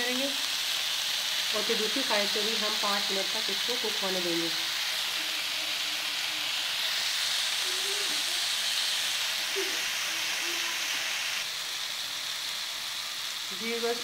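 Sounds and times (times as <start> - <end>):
chicken sizzling on a hot pan: 0.0 - 14.0.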